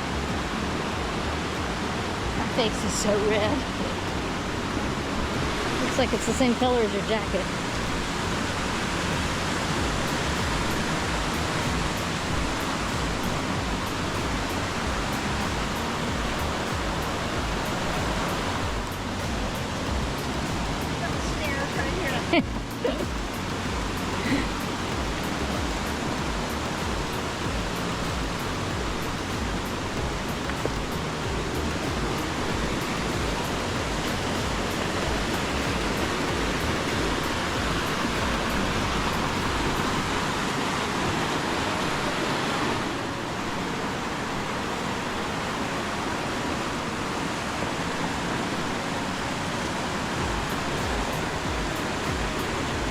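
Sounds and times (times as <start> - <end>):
fast-flowing stream rushing: 0.0 - 52.9.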